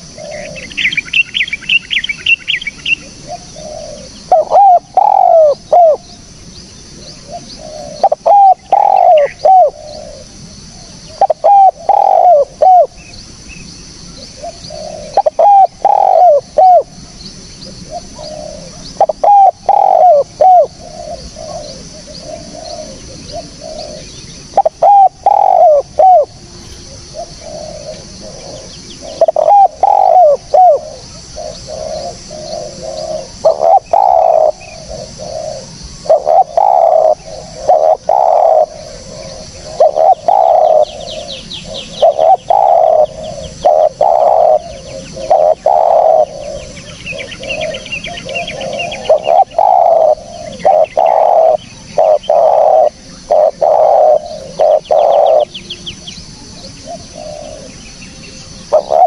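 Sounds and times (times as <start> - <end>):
dove cooing: 0.0 - 6.3, 6.9 - 13.2, 14.2 - 59.0
faint high chirping trills: 0.0 - 59.0.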